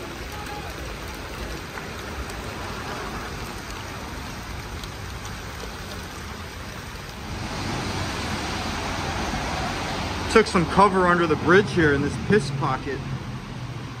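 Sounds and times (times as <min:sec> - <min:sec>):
heavy rain on hard surfaces: 0:00.0 - 0:14.0.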